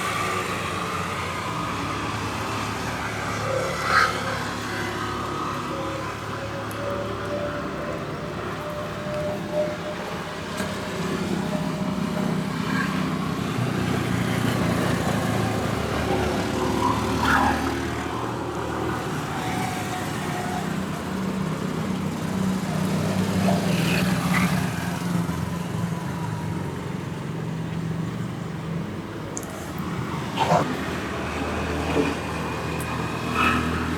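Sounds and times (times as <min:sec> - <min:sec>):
vehicle engine humming: 0:00.0 - 0:33.9.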